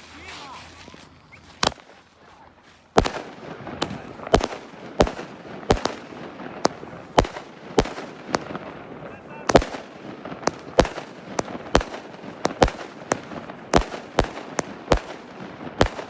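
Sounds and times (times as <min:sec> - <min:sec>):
firework shots: 0:01.6 - 0:02.0, 0:02.9 - 0:16.0.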